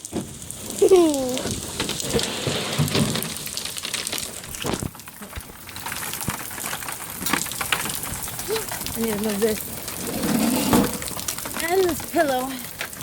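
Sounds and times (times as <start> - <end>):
heavy rain hissing: 0.0 - 5.5, 8.0 - 13.0
hailstones striking hard surfaces: 0.0 - 13.0.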